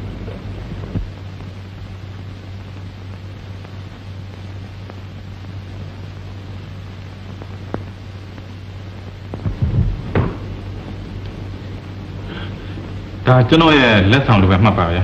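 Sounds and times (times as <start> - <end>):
low mains hum: 0.0 - 15.0
recording hiss: 0.0 - 15.0.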